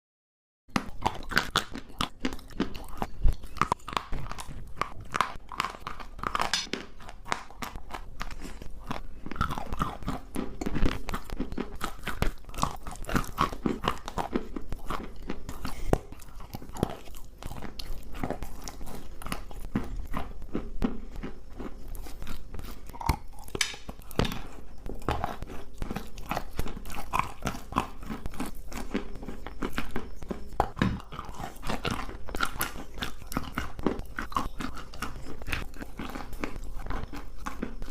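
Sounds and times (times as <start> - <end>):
chalk being chewed: 0.7 - 37.9.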